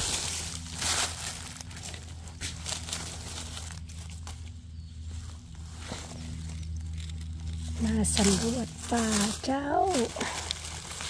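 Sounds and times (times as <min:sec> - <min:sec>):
dry leaves rustling and crackling: 0:00.0 - 0:11.0
steady low hum: 0:00.0 - 0:11.0.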